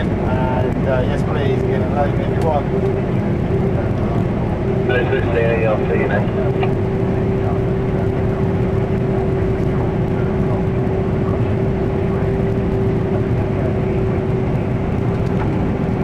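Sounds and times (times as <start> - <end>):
combine harvester engine drone: 0.0 - 16.0
constant hum: 0.0 - 16.0.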